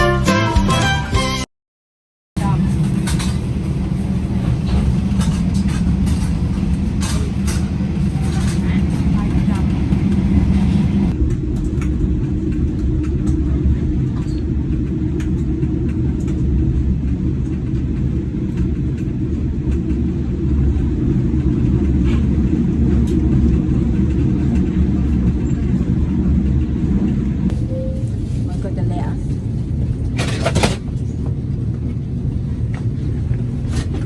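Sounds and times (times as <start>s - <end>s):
train rumble inside carriage: 2.4s - 34.0s.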